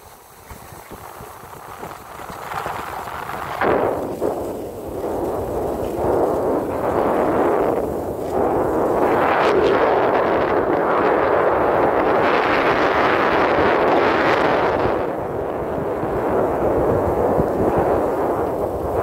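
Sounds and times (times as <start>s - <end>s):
skis scraping over snow: 0.0s - 19.0s
wind rushing over microphone: 0.0s - 19.0s.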